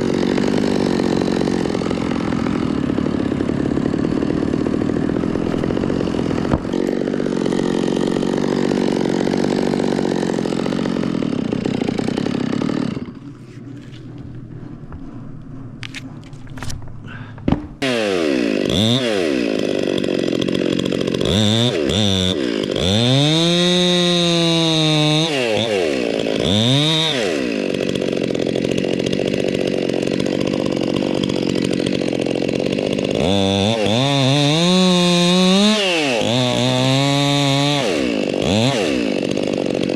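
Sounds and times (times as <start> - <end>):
electric chainsaw cutting wood: 0.0 - 16.6, 17.8 - 39.9.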